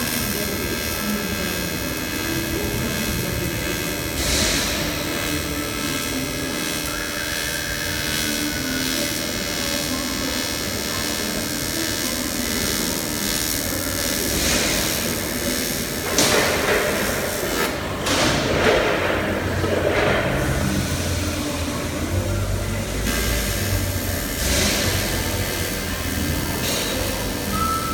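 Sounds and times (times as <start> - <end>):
welding arc buzzing hiss: 0.0 - 27.9.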